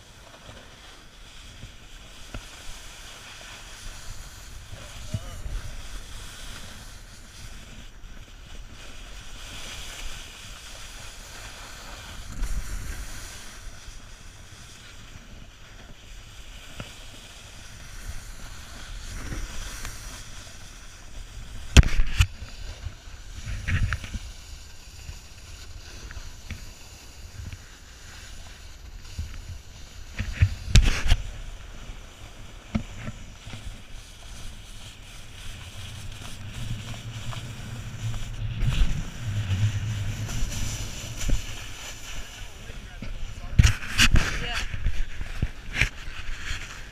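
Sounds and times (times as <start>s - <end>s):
skis scraping over snow: 0.0s - 46.9s
wind on microphone: 1.6s - 16.6s, 17.5s - 46.9s.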